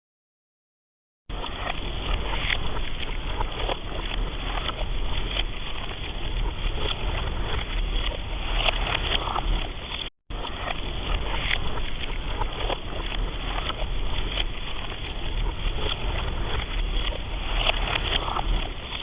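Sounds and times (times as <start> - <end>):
faint crackles: 1.3 - 19.0
low rumble of wind: 1.3 - 19.0.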